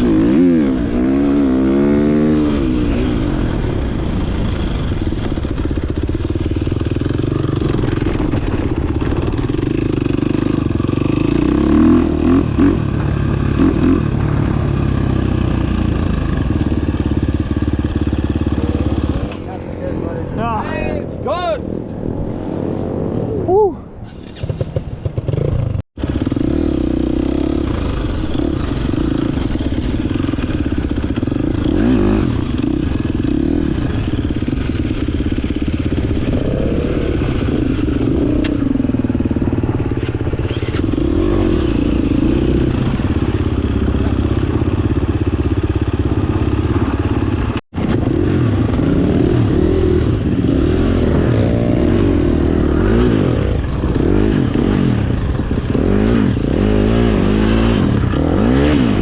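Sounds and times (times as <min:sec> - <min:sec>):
dirt bike engine revving: 0:00.0 - 0:03.8, 0:05.8 - 0:20.0, 0:24.2 - 0:59.0.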